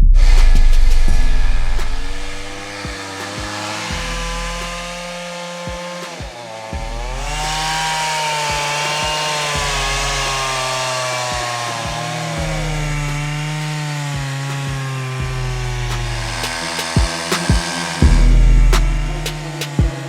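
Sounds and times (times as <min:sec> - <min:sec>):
small motor running: 0:01.8 - 0:20.0.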